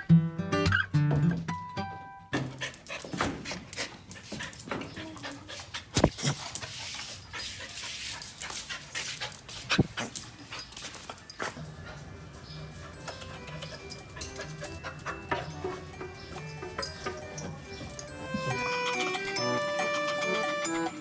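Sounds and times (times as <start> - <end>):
dog panting: 2.4 - 21.0.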